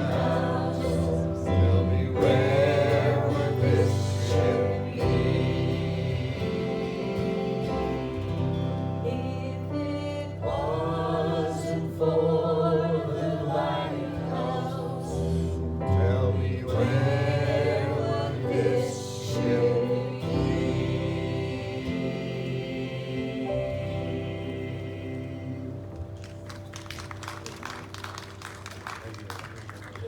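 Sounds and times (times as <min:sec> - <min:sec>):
voices singing together: 0:00.0 - 0:26.2
held accompaniment chords: 0:00.0 - 0:26.8.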